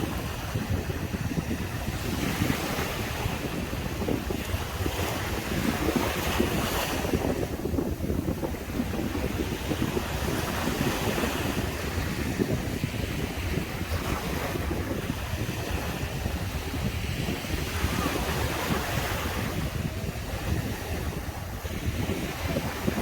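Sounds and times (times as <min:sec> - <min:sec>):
surf washing on beach: 0:00.0 - 0:23.0
wind rumbling on microphone: 0:00.0 - 0:23.0.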